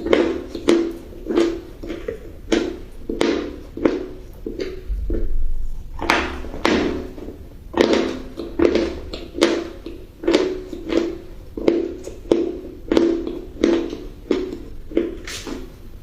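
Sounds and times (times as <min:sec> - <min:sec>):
chewing crunchy food: 0:00.0 - 0:16.0.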